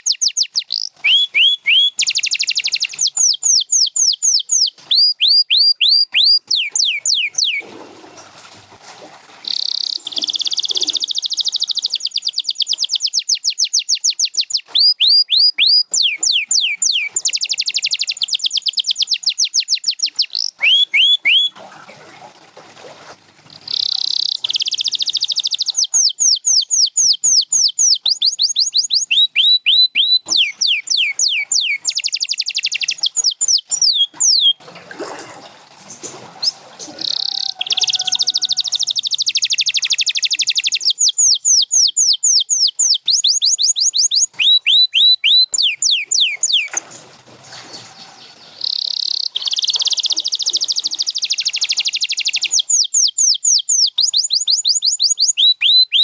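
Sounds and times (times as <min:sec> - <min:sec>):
canary singing trills: 0:00.0 - 0:07.6, 0:09.5 - 0:21.5, 0:23.5 - 0:34.6, 0:36.4 - 0:46.9, 0:47.7 - 0:56.0.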